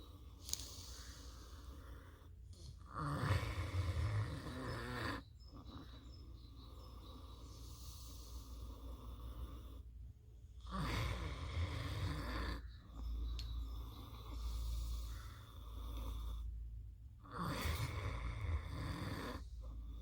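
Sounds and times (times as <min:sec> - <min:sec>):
pig snoring: 0:00.0 - 0:09.9, 0:10.6 - 0:16.5, 0:17.2 - 0:20.0.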